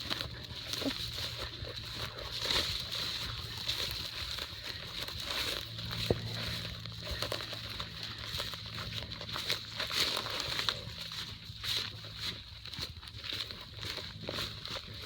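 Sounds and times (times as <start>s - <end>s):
footsteps on rough ground: 0.0s - 15.0s.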